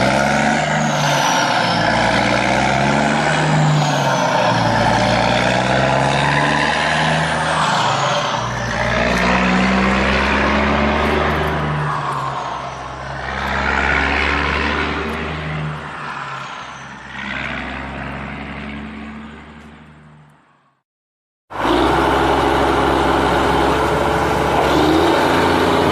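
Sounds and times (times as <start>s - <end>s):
truck engine accelerating: 0.0s - 20.4s, 21.5s - 25.9s.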